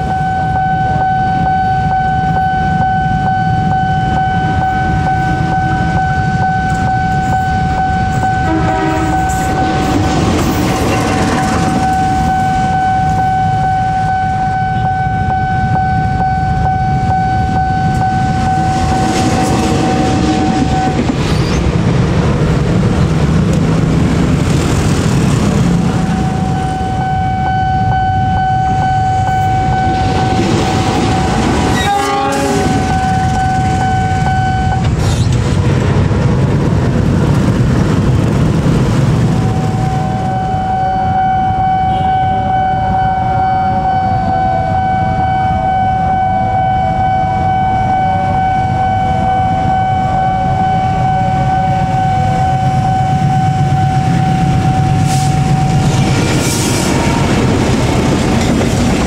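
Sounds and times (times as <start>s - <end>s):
loud warning tone: 0.0s - 35.3s, 37.4s - 59.0s
train rumbling on rails: 0.0s - 59.0s.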